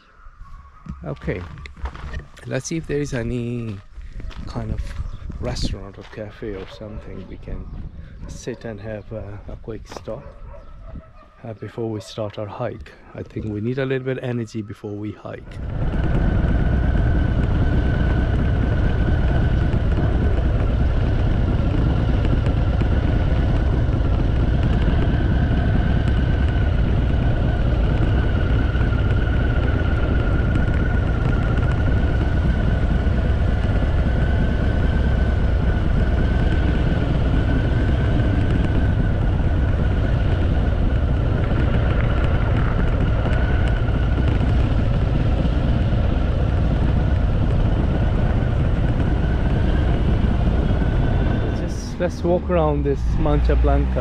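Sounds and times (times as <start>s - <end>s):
motorcycle engine rumble: 0.0s - 54.0s
wind rushing past microphone: 0.0s - 54.0s.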